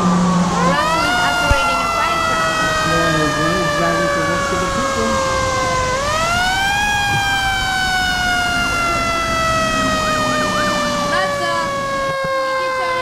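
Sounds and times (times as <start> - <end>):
fire truck siren wailing: 0.0 - 13.0.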